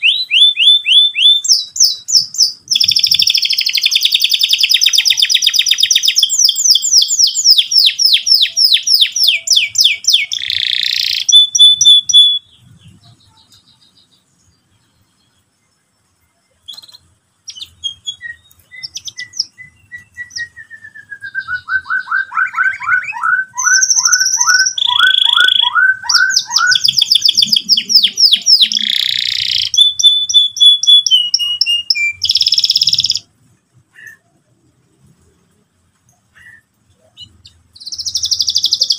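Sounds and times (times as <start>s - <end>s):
canary singing trills: 0.0s - 33.3s, 36.1s - 38.9s.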